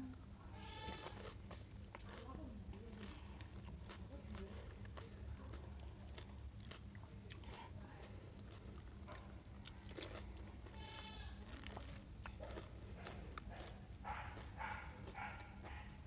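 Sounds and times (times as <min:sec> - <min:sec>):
crunching and chewing: 0:00.0 - 0:16.0
low steady hum: 0:00.0 - 0:16.0.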